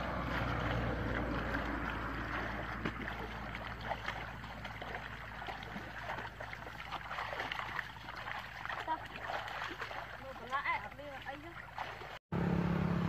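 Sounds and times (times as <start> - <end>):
hands splashing in water: 0.0 - 12.2
muddy water trickling and sloshing: 0.0 - 12.2.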